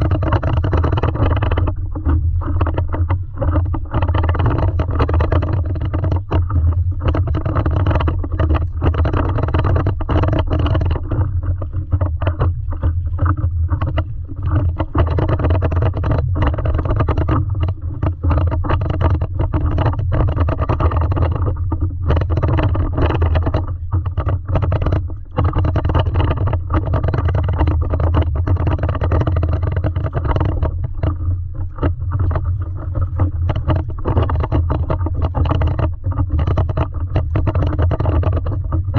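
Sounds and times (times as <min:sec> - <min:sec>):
water splashing around board: 0:00.0 - 0:38.9
wind on microphone: 0:00.0 - 0:38.9.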